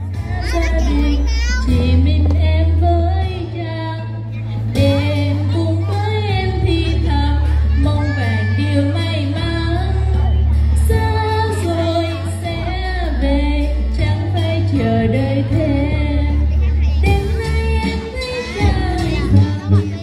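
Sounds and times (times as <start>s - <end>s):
backing track with heavy bass: 0.0s - 20.0s
girls singing into microphones: 0.0s - 20.0s.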